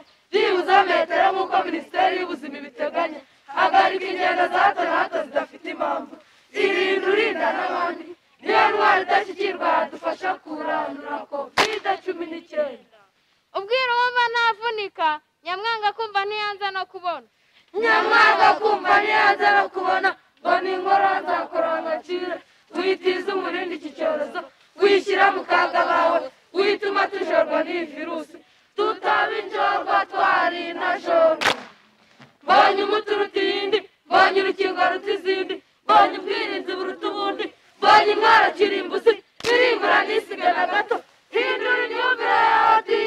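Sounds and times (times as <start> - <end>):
children chanting in unison: 0.0 - 12.9, 17.7 - 31.4, 32.4 - 43.0.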